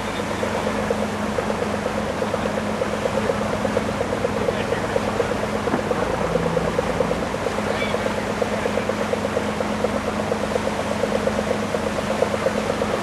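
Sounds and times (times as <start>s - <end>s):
constant noise: 0.0s - 13.0s
motor pulsing: 0.0s - 13.0s.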